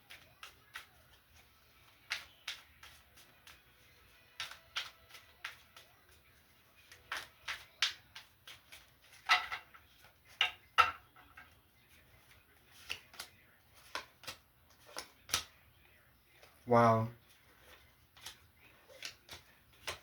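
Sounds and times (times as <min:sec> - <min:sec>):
cards slapping on a table: 0:00.0 - 0:06.2, 0:06.8 - 0:11.6, 0:12.2 - 0:15.6, 0:17.6 - 0:20.0.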